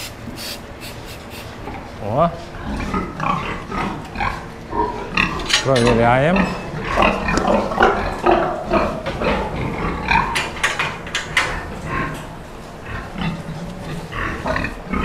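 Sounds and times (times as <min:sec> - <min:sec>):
pigs grunting: 0:01.2 - 0:15.0.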